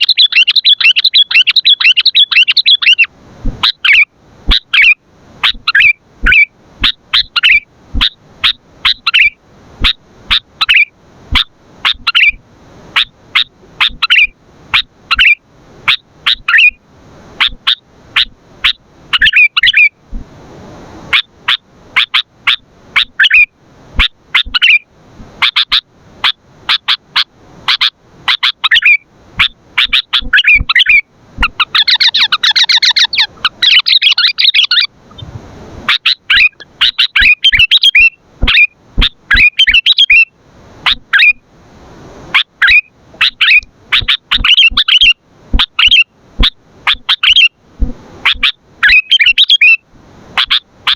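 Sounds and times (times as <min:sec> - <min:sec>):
bird chirping: 0:00.0 - 0:12.4, 0:13.0 - 0:16.8, 0:17.4 - 0:20.0, 0:21.5 - 0:24.8, 0:26.7 - 0:35.3, 0:35.9 - 0:40.3, 0:42.6 - 0:47.6, 0:48.3 - 0:49.8.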